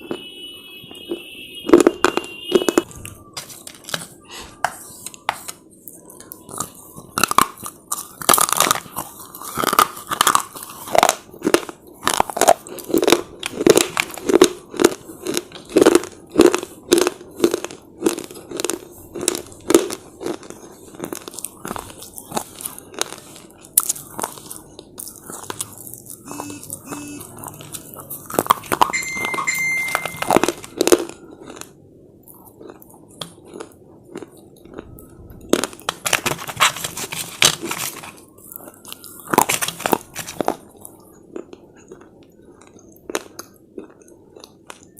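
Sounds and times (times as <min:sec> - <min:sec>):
slate chips crunching when chewed: 0:01.1 - 0:04.2, 0:05.9 - 0:44.9.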